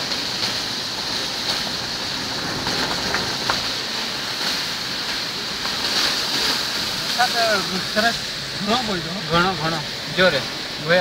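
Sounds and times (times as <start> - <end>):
road and wind noise in a car: 0.0 - 11.0.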